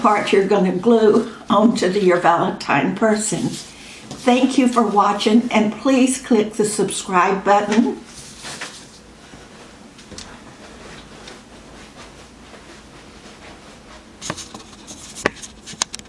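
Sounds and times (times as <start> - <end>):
faint rustling and handling: 0.0 - 6.8, 7.6 - 16.0.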